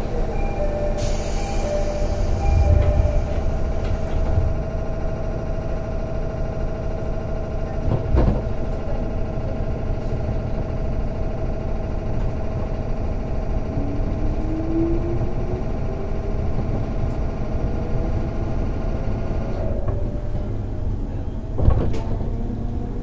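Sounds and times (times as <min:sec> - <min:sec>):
electric train humming: 0:00.0 - 0:23.0.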